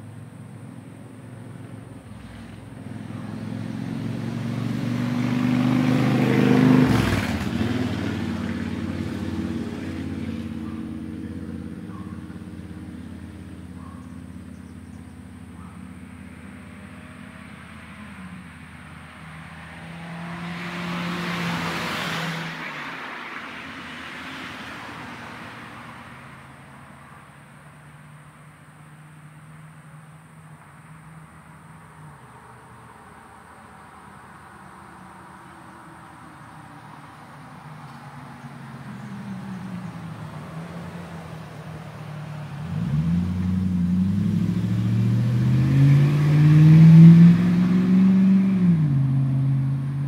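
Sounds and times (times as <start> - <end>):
motor vehicles passing by: 0.0 - 50.0.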